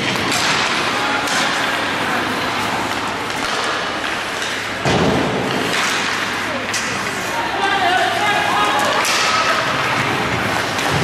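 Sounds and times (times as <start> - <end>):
hockey sticks clacking: 0.0 - 11.0.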